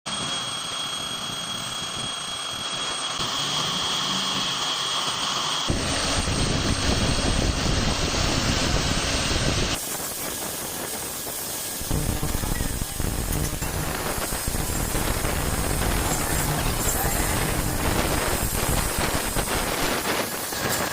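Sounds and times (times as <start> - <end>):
metalworking machine running: 0.1 - 20.9
thin high whine: 0.1 - 20.9.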